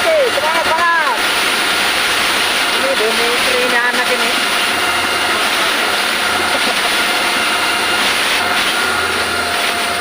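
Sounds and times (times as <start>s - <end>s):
high steady whine: 0.0s - 10.0s
pump truck engine running: 0.0s - 10.0s.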